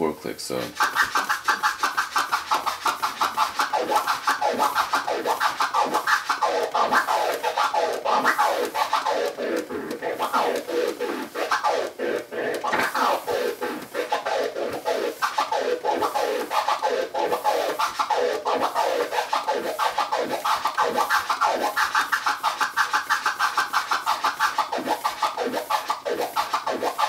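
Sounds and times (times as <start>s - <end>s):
turntable scratching: 0.2s - 27.0s.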